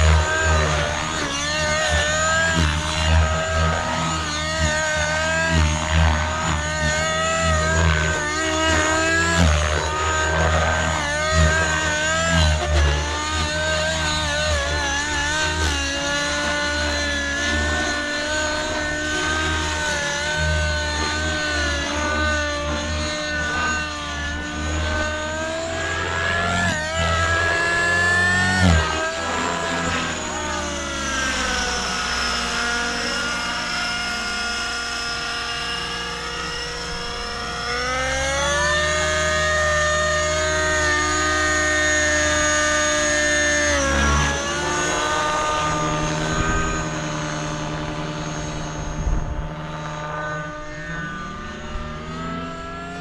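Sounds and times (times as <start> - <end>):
helicopter rotors whirring: 0.0 - 53.0
rc helicopter engine: 0.0 - 53.0.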